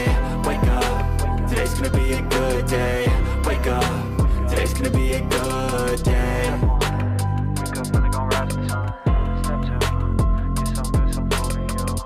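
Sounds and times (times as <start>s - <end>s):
hip-hop backing music: 0.0s - 12.0s.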